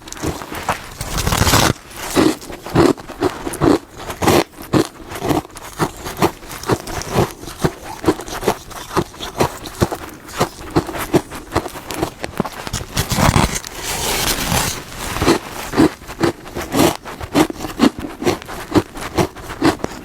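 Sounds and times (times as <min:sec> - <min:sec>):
chewing crunchy frost: 0:00.0 - 0:20.0.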